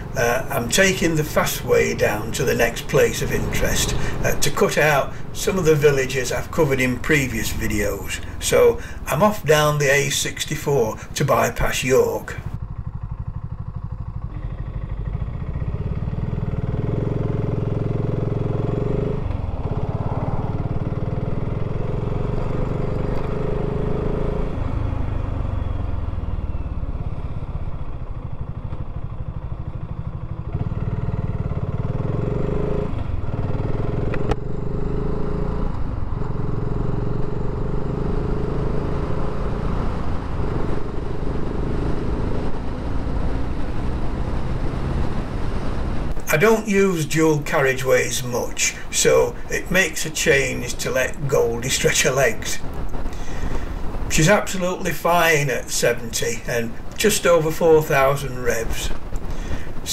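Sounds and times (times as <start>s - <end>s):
motorcycle accelerating: 0.0s - 59.9s.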